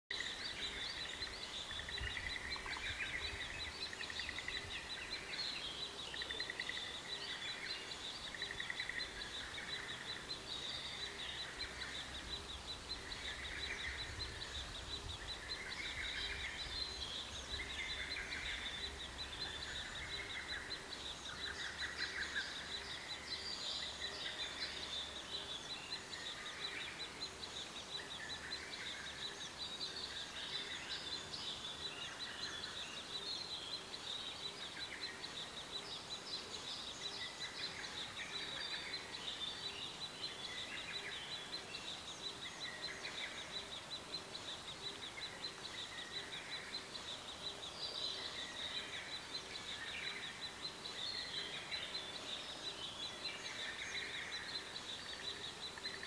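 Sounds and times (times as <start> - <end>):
bird chirping calls: 0.1 - 56.0.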